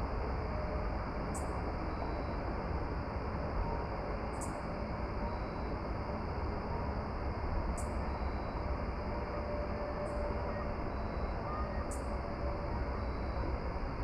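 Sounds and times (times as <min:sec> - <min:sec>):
constant high hiss: 0:00.0 - 0:14.0.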